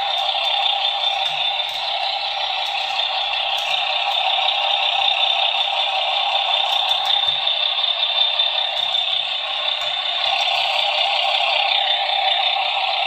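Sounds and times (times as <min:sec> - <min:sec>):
tinny simulated truck engine: 0:00.0 - 0:13.0.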